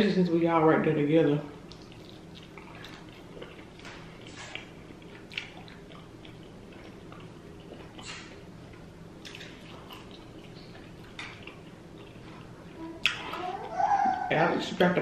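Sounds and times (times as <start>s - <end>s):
faint steady hum: 0.0s - 15.0s
person chewing food: 1.6s - 14.3s.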